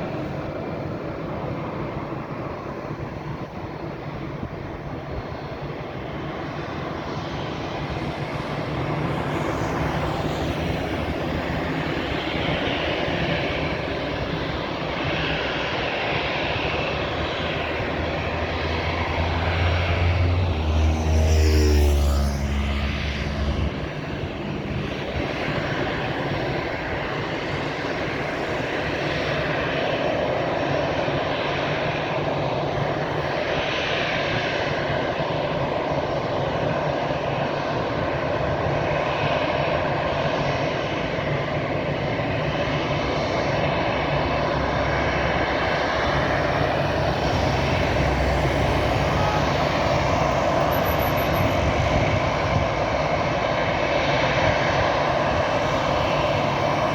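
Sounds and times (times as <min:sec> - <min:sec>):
jet engines taking off: 0:00.0 - 0:56.9.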